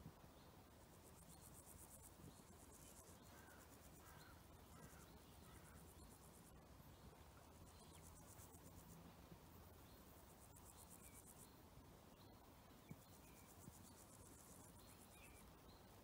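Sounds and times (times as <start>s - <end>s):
insect chirring: 0.7s - 9.0s, 9.6s - 11.6s, 12.2s - 16.0s.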